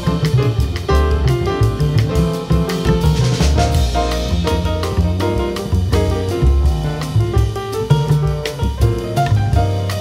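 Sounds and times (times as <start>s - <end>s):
bass: 0.0s - 10.0s
drum kit beat: 0.0s - 10.0s
jazz piano: 0.0s - 10.0s.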